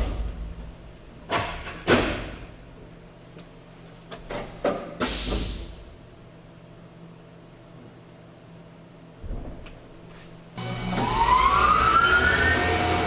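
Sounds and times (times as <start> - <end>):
faint machinery hum: 0.0 - 12.6.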